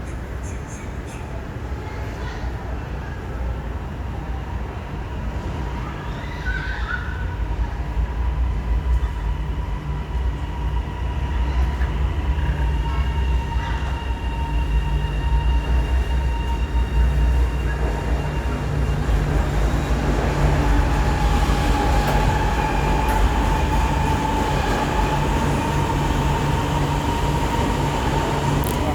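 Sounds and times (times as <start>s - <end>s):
train rumbling on tracks: 0.0s - 28.9s.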